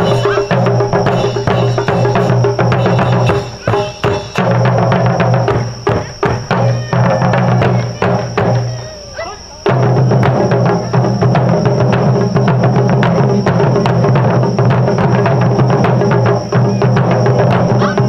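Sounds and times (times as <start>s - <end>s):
taiko drumming: 0.0s - 18.0s.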